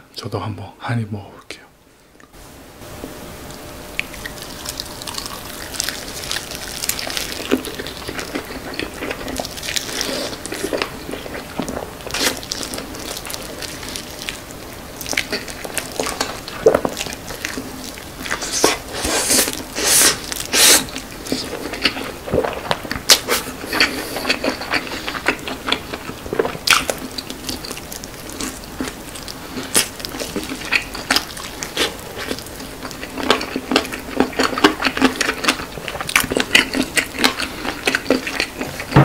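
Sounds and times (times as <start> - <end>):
wet chewing mouth sounds: 3.4 - 39.0.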